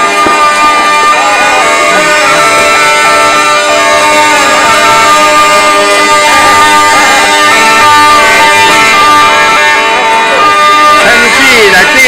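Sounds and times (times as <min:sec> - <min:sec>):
bagpipe melody over drones: 0:00.0 - 0:12.0.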